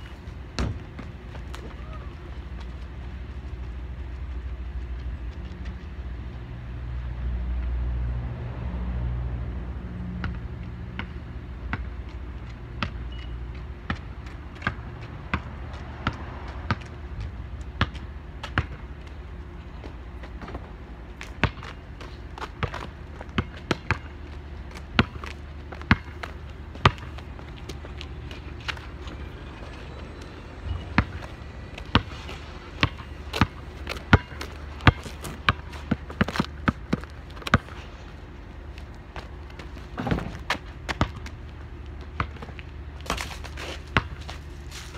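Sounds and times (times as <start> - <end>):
basketball bouncing on asphalt: 0.0 - 6.5, 10.1 - 38.0, 38.8 - 44.8
passing traffic rumble: 0.0 - 44.9.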